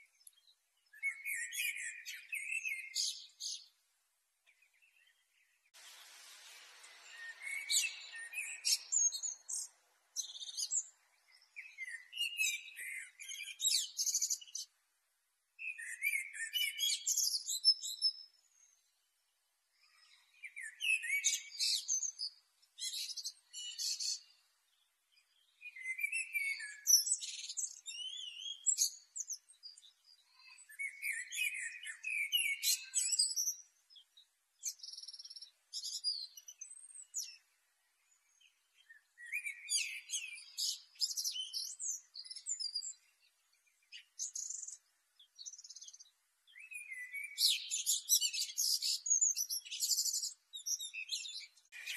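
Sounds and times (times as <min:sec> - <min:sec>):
blackbird singing: 0:00.0 - 0:03.8, 0:06.9 - 0:14.7, 0:15.6 - 0:18.9, 0:19.9 - 0:51.9.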